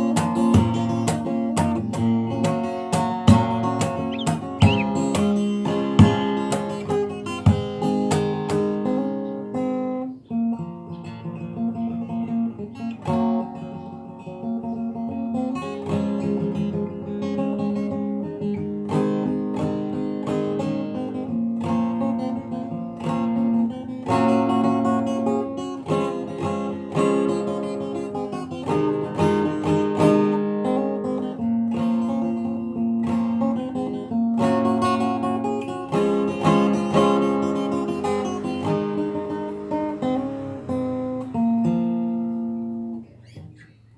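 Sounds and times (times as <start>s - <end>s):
fingerstyle acoustic guitar: 0.0s - 43.9s.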